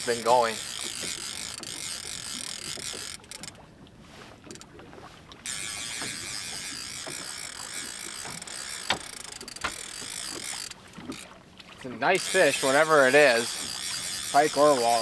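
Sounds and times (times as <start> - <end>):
outboard motor buzzing: 0.0 - 15.0.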